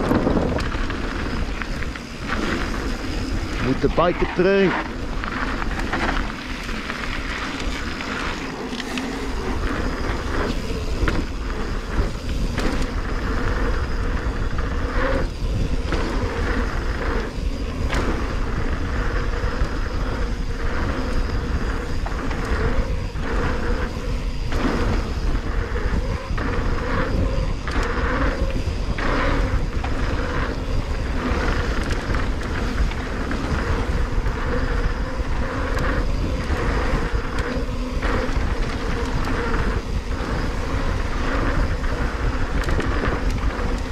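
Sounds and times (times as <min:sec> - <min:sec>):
bike knocks and rattles: 0:00.0 - 0:43.9
bike tyres rolling on dirt: 0:00.0 - 0:43.9
wind rumbling on microphone: 0:00.0 - 0:43.9.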